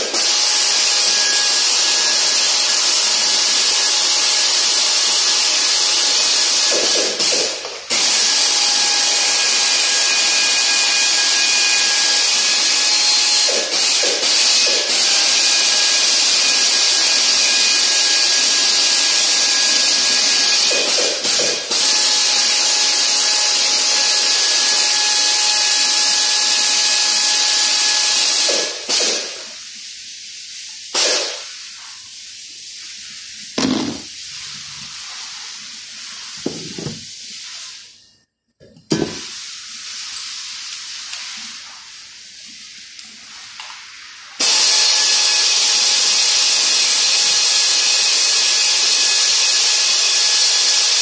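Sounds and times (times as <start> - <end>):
pneumatic tool hissing: 0.0 - 37.9, 38.9 - 51.0.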